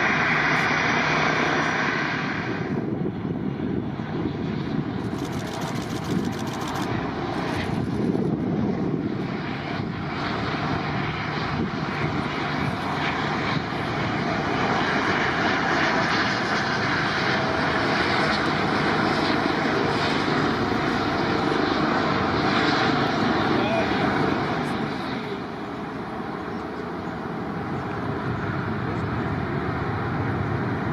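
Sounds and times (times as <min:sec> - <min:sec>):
airliner engines running: 0:00.0 - 0:30.9.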